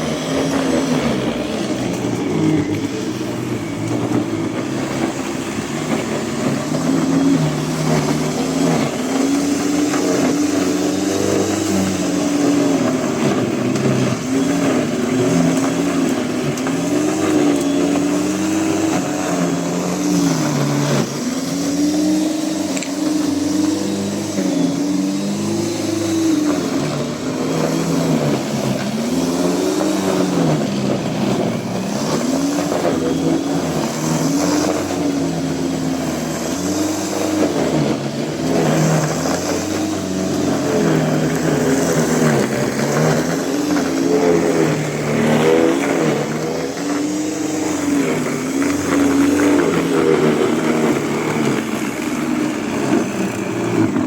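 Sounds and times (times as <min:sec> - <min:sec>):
electric lawn mower cutting grass: 0:00.0 - 0:54.0.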